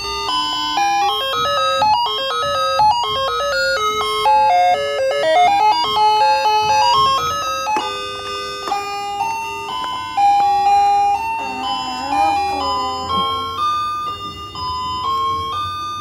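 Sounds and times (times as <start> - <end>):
electronic toy melody: 0.0 - 16.0.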